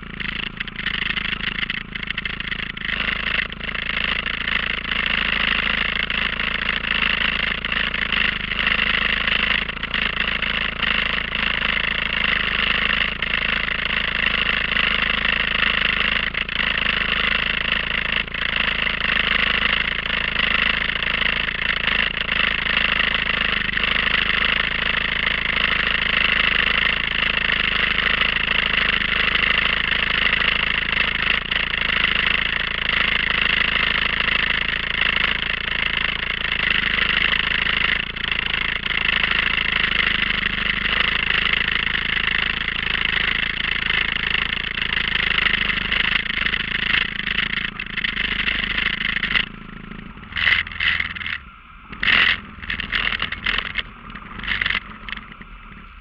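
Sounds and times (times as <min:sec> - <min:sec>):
atv engine idling: 0:00.0 - 0:56.0.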